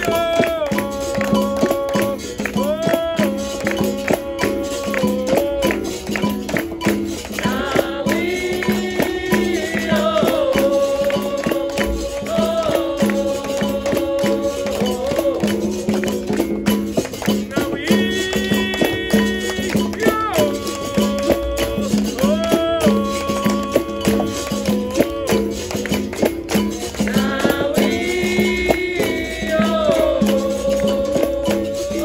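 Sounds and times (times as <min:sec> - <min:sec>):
person singing call line: 0:00.0 - 0:16.5, 0:17.4 - 0:25.9, 0:26.8 - 0:32.0.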